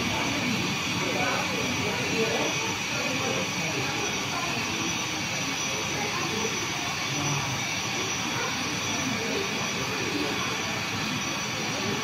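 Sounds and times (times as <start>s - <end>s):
murmur of distant chatter: 0.0s - 12.0s.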